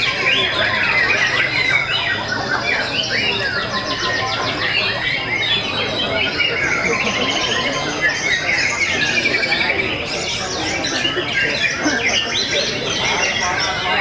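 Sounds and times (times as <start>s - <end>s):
birds singing whistled trills: 0.0s - 14.0s.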